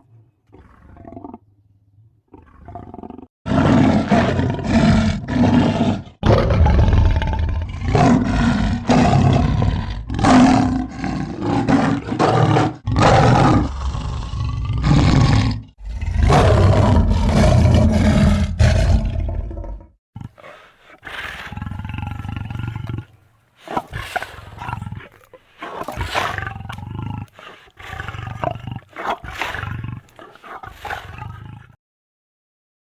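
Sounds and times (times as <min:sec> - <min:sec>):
leopards growling: 0:02.7 - 0:31.8.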